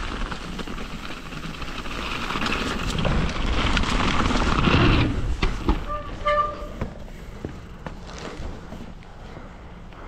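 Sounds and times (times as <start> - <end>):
bike tyres rattling over gravel: 0.0 - 9.0.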